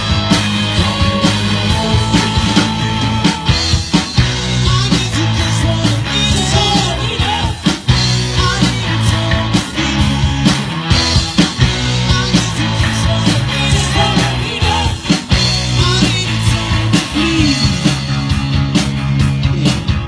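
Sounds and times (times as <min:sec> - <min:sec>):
bass line: 0:00.0 - 0:20.0
drum kit: 0:00.0 - 0:20.0
electric guitars: 0:00.0 - 0:20.0.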